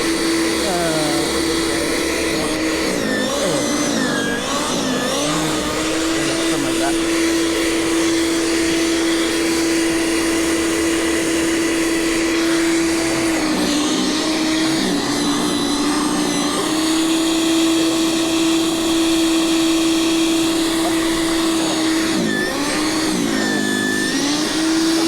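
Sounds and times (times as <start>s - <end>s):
snow blower engine running: 0.0s - 25.0s.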